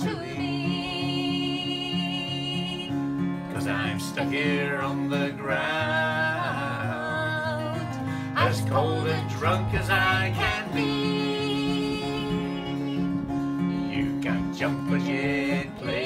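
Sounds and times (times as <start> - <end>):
acoustic guitar playing: 0.0 - 16.0
woman singing: 0.0 - 16.0.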